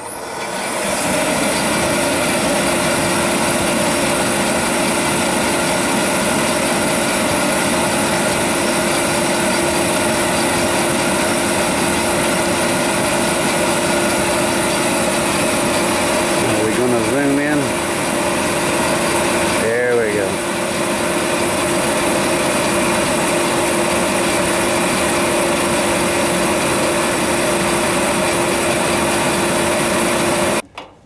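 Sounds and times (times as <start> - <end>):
forced-air heater running: 0.0 - 31.0.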